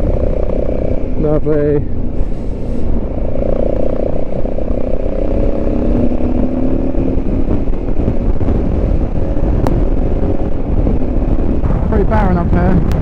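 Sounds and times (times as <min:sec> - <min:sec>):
motorcycle engine cruising: 0:00.0 - 0:13.0
road rumble: 0:00.0 - 0:13.0
wind noise: 0:00.0 - 0:13.0.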